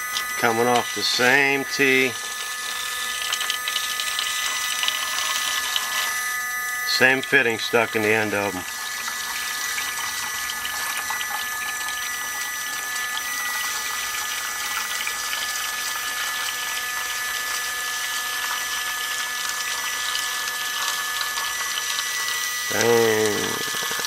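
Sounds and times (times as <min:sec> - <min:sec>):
rushing water from hoses: 0:00.0 - 0:06.2, 0:06.9 - 0:24.0
water pump whine: 0:00.0 - 0:24.0.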